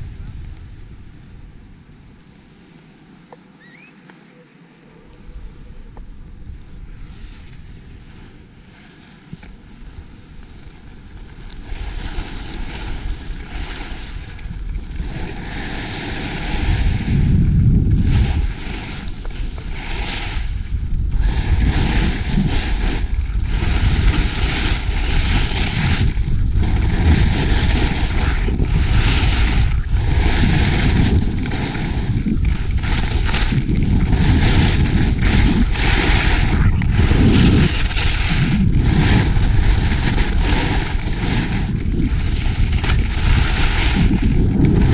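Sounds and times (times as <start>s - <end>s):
wind buffeting microphone: 0.0s - 2.3s, 5.1s - 8.6s, 9.6s - 44.9s
skis carving on snow: 5.1s - 44.9s.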